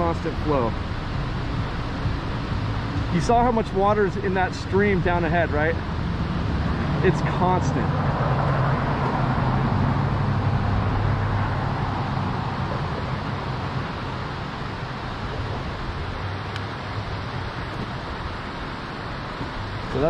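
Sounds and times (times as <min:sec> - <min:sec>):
vehicle passing rumble: 0:00.0 - 0:20.0
water rushing below dam: 0:00.0 - 0:20.0.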